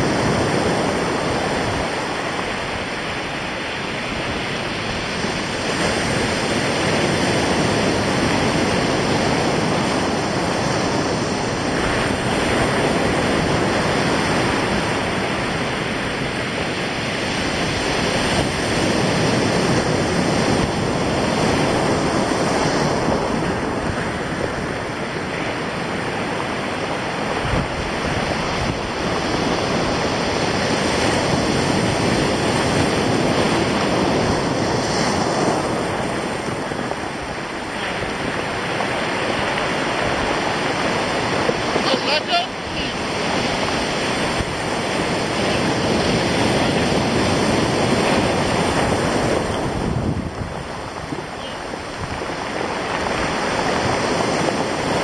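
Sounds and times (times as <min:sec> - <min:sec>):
surf breaking over rocks: 0:00.0 - 0:55.0
wind on microphone: 0:00.0 - 0:55.0.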